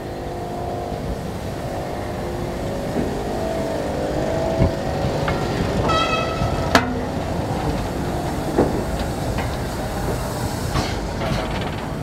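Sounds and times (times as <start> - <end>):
steam locomotive rumbling and clanking: 0.0 - 12.0
wheels clicking over rail joints: 0.0 - 12.0.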